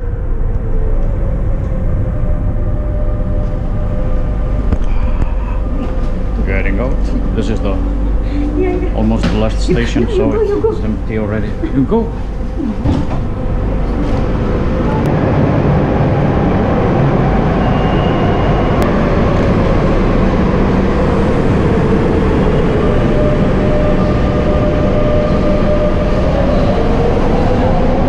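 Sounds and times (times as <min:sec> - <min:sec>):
train rumble: 0:00.0 - 0:28.0.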